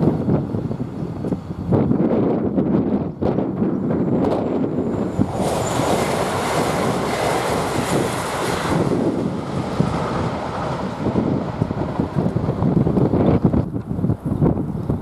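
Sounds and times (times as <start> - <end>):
passenger train passing at speed: 0.0 - 15.0
wind buffeting microphone: 0.0 - 15.0.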